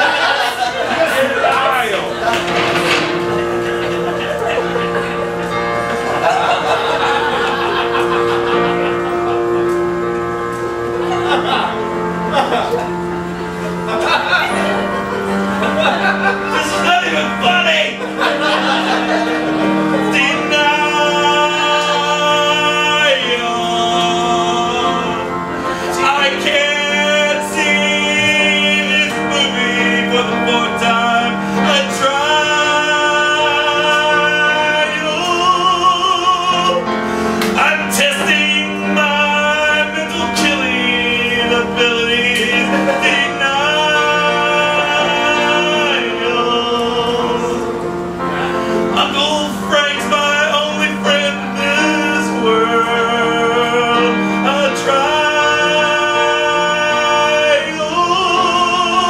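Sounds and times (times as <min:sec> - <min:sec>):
instrumental accompaniment: 0:00.0 - 0:59.0
singers holding long notes: 0:00.0 - 0:59.0.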